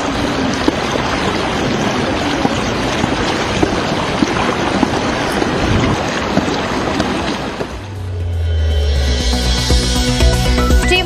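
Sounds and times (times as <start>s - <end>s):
floodwater rushing: 0.0s - 10.7s.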